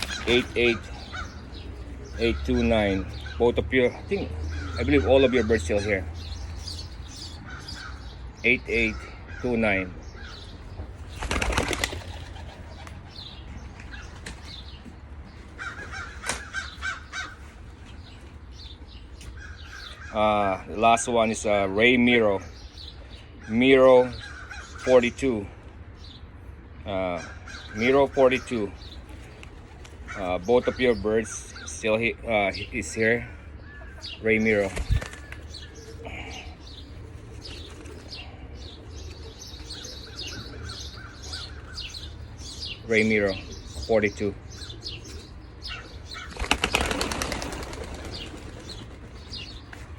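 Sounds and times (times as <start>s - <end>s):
faint bird calls: 0.0s - 21.3s, 26.8s - 49.9s
harsh bird calls: 0.0s - 49.9s.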